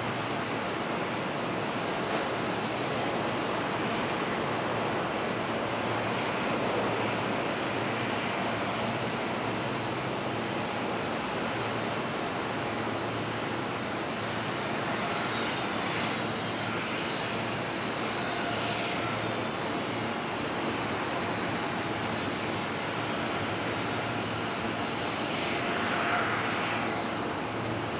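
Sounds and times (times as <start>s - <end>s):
jet engines running: 0.0s - 27.9s.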